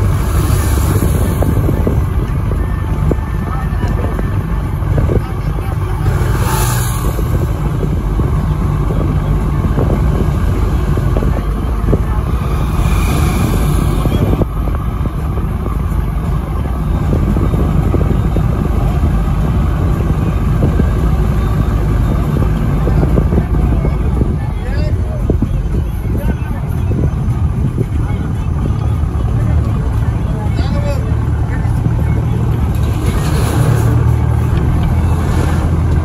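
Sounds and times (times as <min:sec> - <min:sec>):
vehicle road noise rumble: 0:00.0 - 0:36.0.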